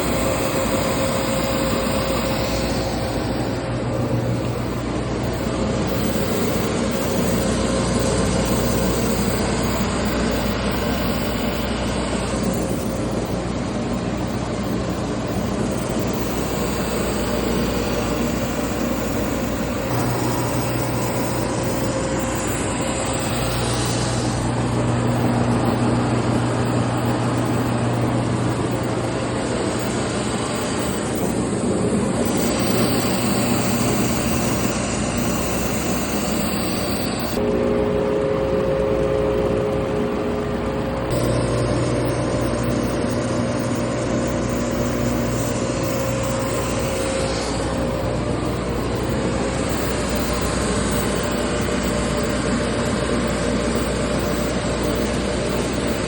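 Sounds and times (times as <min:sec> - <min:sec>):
drum sander motor hum: 0:00.0 - 0:56.0.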